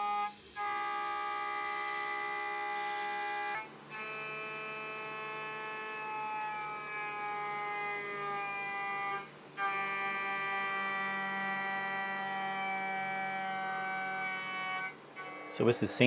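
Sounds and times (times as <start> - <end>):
router spindle milling whine: 0.0 - 16.0.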